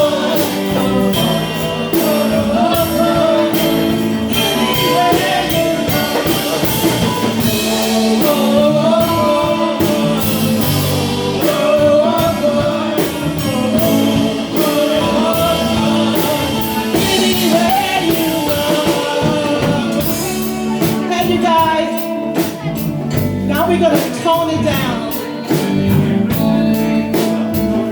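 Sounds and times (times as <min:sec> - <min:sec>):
person singing: 0:00.0 - 0:27.9
rock band playing: 0:00.0 - 0:27.9.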